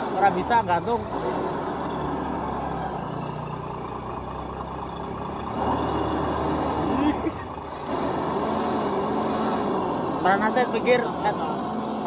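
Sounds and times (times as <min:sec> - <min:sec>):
toy bus motor hum: 0:00.0 - 0:11.5.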